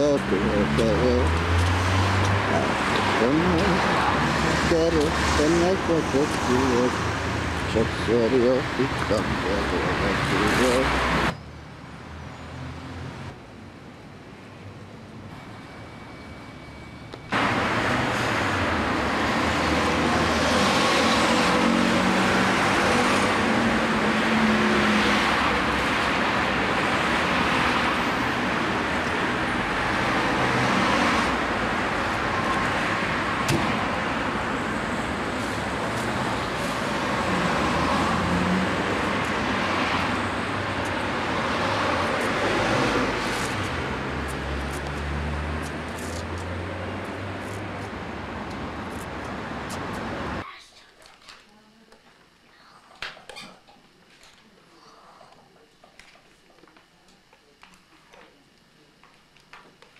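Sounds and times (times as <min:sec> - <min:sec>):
cars passing on street: 0:00.0 - 0:50.4.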